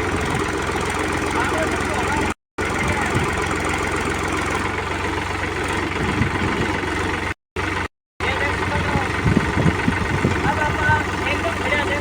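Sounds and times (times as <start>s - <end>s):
tractor diesel engine throbbing: 0.0s - 12.0s.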